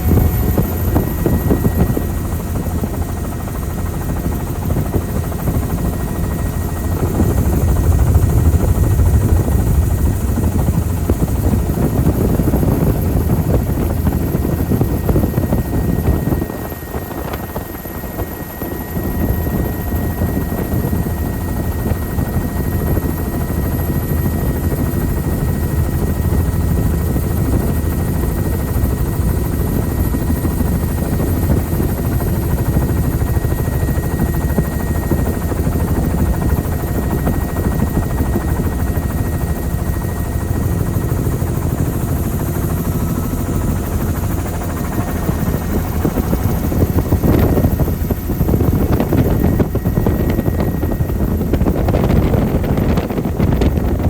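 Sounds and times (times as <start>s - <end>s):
helicopter rotor and engine rumble: 0.0s - 54.0s.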